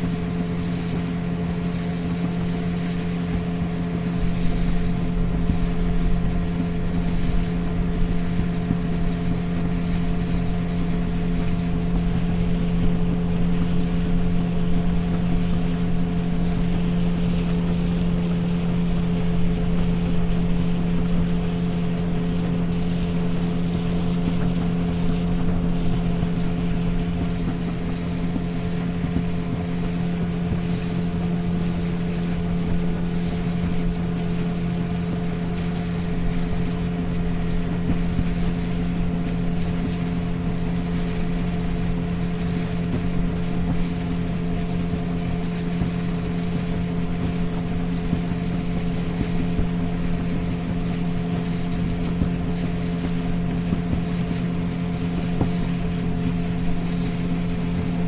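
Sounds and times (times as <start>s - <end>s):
motorboat engine droning: 0.0s - 58.0s
rushing water: 0.0s - 58.0s.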